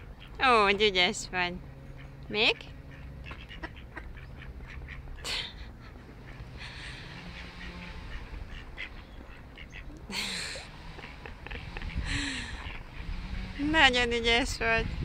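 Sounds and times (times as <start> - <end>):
ducks quacking: 1.9 - 14.8.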